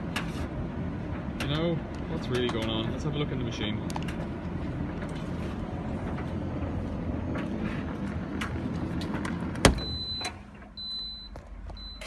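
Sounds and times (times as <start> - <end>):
tumble dryer rumbling: 0.0 - 10.2.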